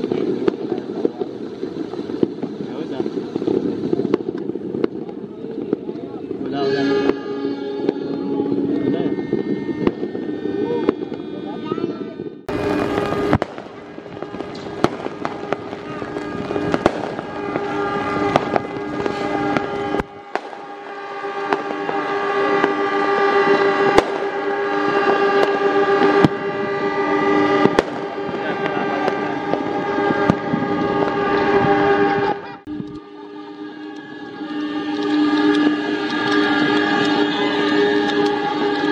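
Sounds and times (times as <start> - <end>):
fireworks popping and crackling: 0.0 - 11.8, 12.5 - 38.9
locomotive horns chord: 6.4 - 11.7, 12.5 - 38.9.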